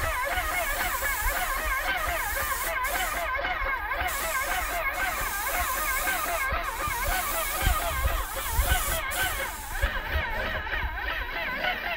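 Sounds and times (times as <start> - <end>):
spray gun hissing: 0.0 - 10.6
wavering warble: 0.0 - 11.4.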